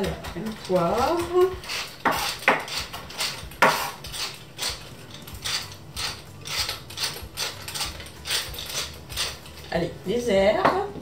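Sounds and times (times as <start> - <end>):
pepper mill grinding clicks: 0.0 - 9.8.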